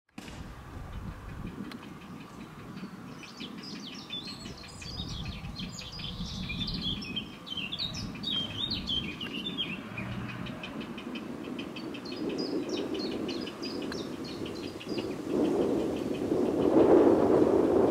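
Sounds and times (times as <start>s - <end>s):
heron chicks chirping: 0.9s - 16.8s.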